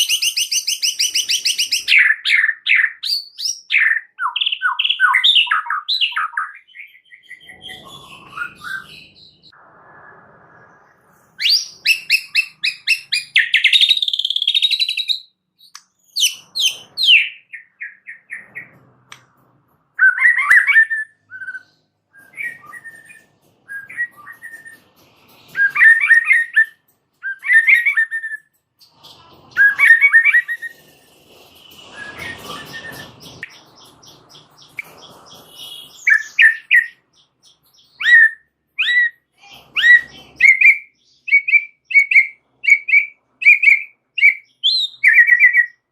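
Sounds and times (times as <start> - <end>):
bird singing whistles and trills: 0.0 - 9.6, 11.4 - 18.7, 20.0 - 24.8, 25.5 - 28.5, 29.5 - 30.8, 31.9 - 39.2, 39.8 - 45.9.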